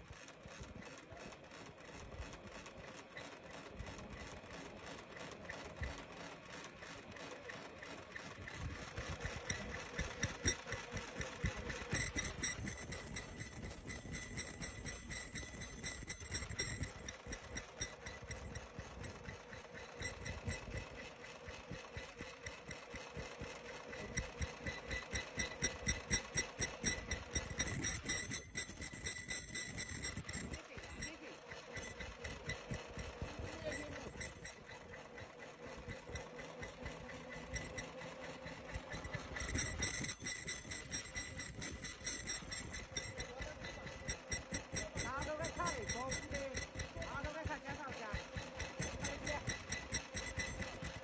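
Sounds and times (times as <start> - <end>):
machine clattering: 1.5 - 51.0
machine high whine: 7.5 - 51.0.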